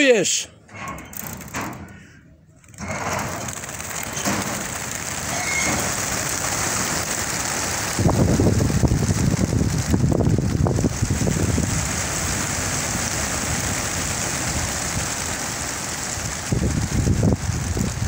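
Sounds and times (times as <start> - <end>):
pigeon wings beating: 2.6 - 18.0.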